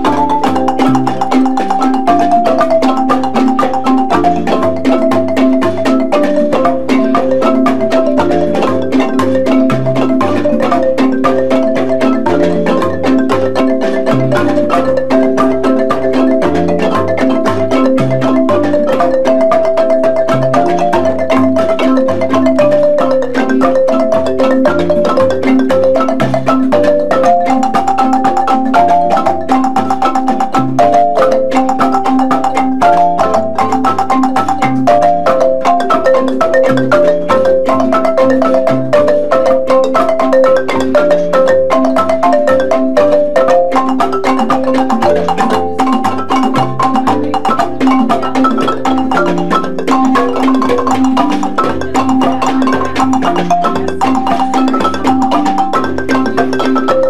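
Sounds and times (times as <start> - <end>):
marimba melody: 0.0 - 57.0.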